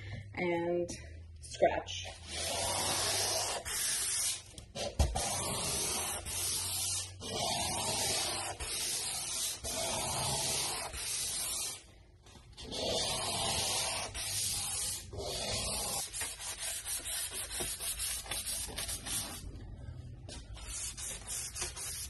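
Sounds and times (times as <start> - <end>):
sandpaper scratching countertop: 2.2 - 11.8, 12.6 - 19.4, 20.3 - 22.0.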